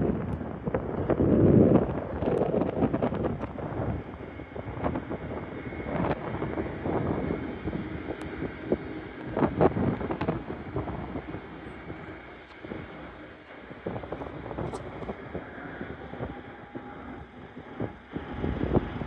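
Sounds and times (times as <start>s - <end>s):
distant airliners rumbling: 0.0s - 19.0s
wind buffeting microphone: 0.0s - 19.0s.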